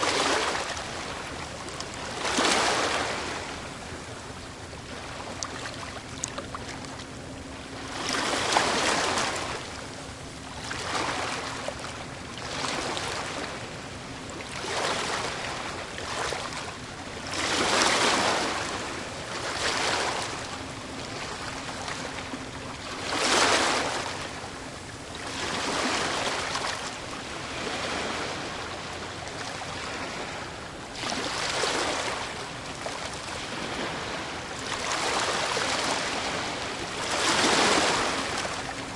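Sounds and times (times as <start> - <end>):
ocean waves washing onto beach: 0.0 - 38.9.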